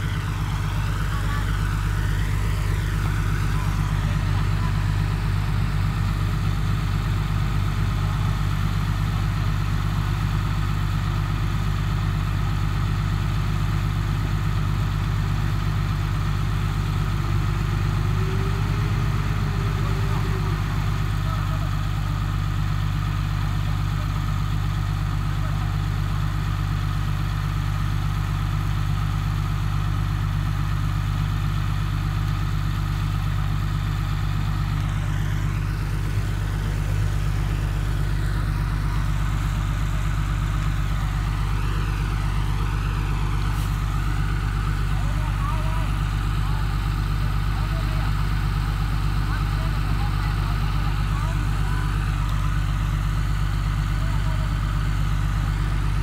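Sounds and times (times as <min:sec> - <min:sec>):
diesel engine running steadily: 0:00.0 - 0:56.0.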